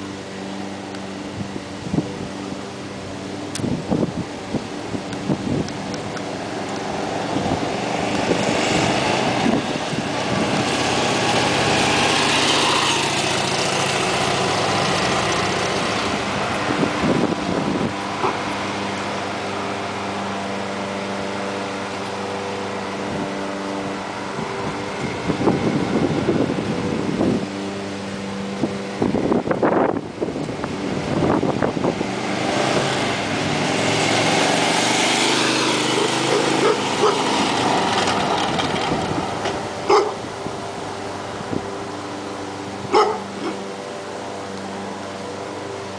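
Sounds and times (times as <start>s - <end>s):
motorcycle engine running: 0.0s - 45.9s
wind noise: 1.1s - 19.3s, 22.7s - 43.6s.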